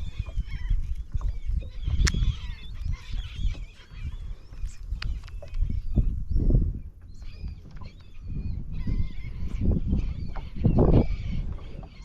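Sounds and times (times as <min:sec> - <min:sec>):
seabirds squealing calls: 0:00.0 - 0:12.0.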